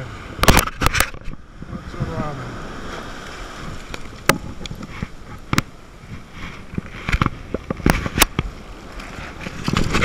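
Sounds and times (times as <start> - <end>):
surf: 0.0 - 10.0.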